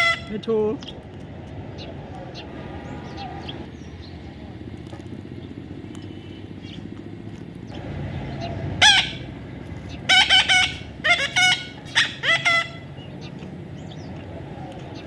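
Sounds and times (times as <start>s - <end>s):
bird calling: 0.0s - 15.0s
steady background hum: 0.0s - 15.0s.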